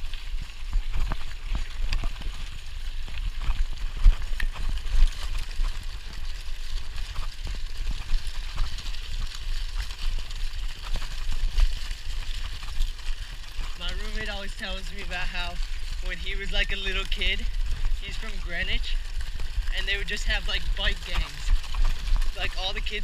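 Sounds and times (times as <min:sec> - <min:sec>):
bike clicks and rattles: 0:00.0 - 0:23.0
tyres crunching on gravel: 0:00.0 - 0:23.0
wind rumble on microphone: 0:00.0 - 0:23.0.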